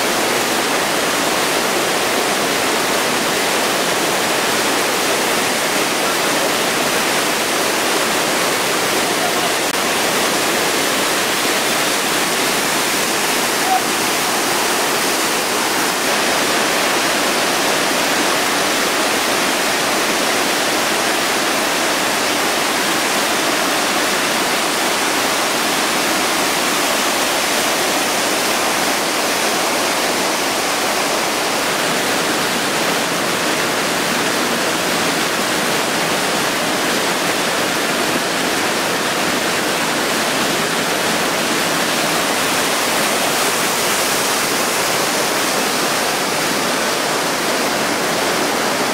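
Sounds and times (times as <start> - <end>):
river rapids rushing: 0.0 - 48.9.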